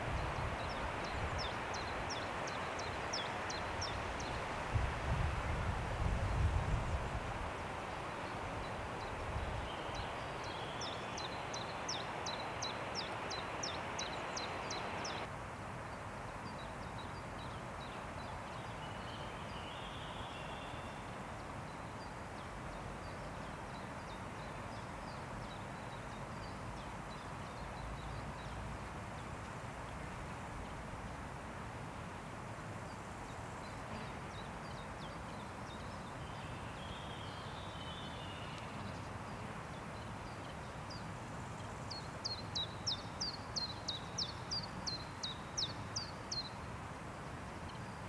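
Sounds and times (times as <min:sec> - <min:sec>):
wind rushing through trees: 0:00.0 - 0:48.0.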